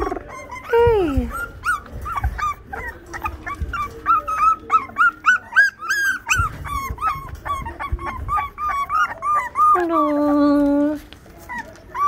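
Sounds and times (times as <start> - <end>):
puppies whining and crying: 0.0 - 12.0.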